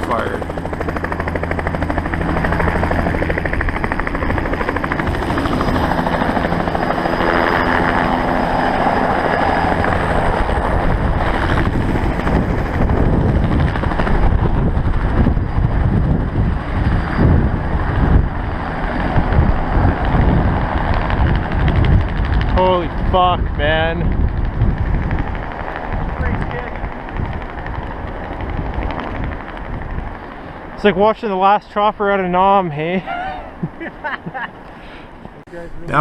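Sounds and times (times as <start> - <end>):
helicopter rotor beat: 0.0 - 36.0.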